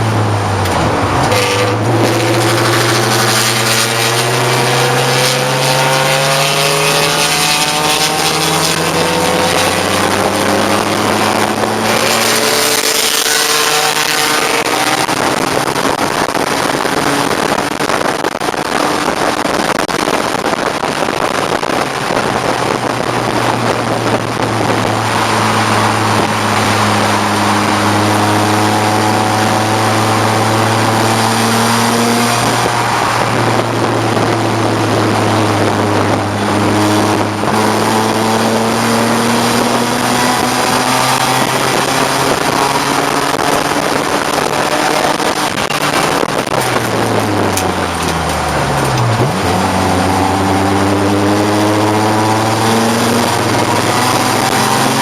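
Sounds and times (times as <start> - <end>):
car engine revving hard: 0.0 - 55.0
wind and road noise: 0.0 - 55.0.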